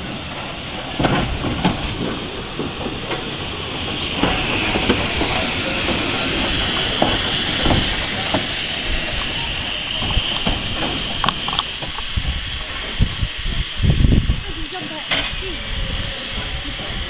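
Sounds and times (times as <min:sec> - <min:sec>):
steam hiss: 0:00.0 - 0:17.0.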